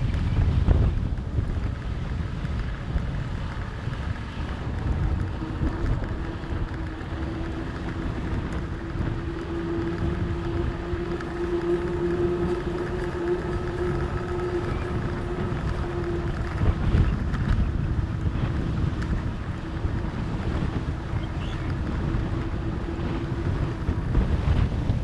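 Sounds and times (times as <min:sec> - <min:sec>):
steady hum: 0:00.0 - 0:25.0
wind buffeting microphone: 0:00.0 - 0:25.0.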